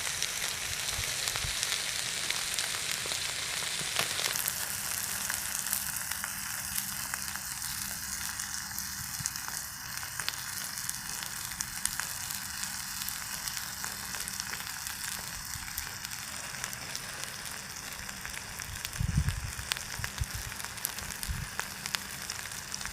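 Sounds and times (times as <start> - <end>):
fish sizzling on iron plate: 0.0 - 22.9.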